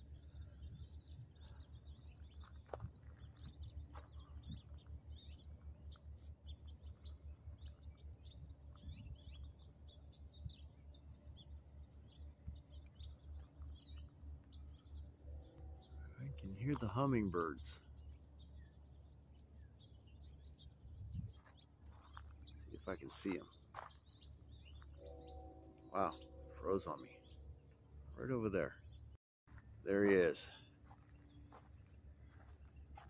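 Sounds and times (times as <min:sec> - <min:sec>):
hummingbirds chirping: 0:00.0 - 0:29.2, 0:29.9 - 0:33.0
steady low rumble: 0:00.0 - 0:33.0.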